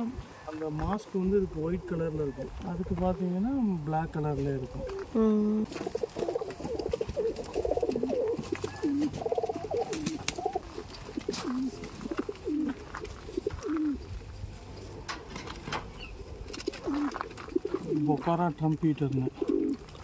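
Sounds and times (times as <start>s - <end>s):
pigeons cooing: 0.0s - 18.5s, 19.1s - 20.0s.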